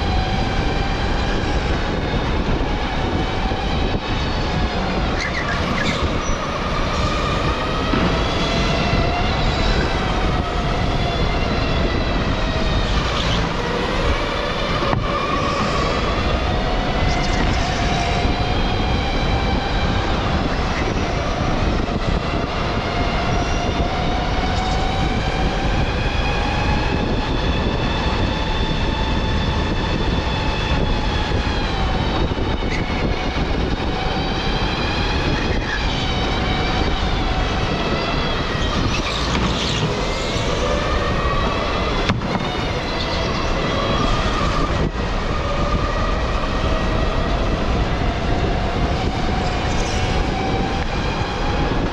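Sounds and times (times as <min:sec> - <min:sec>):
steady rushing rumble: 0:00.0 - 0:51.9.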